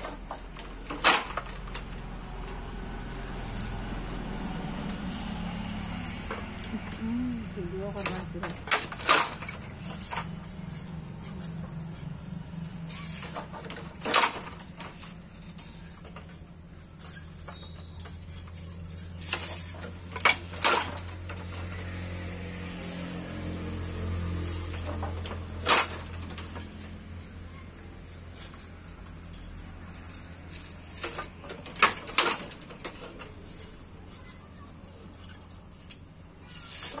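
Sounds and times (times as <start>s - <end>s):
loom batten clacking: 0.0s - 37.0s
loom frame knocks and rattles: 0.0s - 37.0s
low steady hum: 0.0s - 37.0s.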